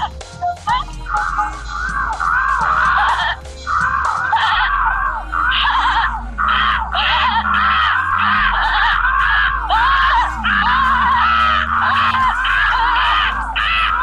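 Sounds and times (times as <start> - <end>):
low steady drone: 0.0 - 14.0
shrill cartoon squawking calls: 1.1 - 14.0.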